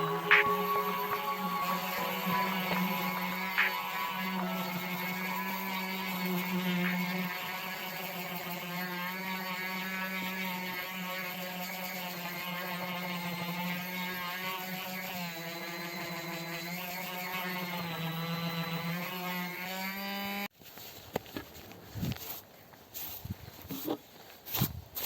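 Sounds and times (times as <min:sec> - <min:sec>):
power tool motor running: 0:00.0 - 0:20.5.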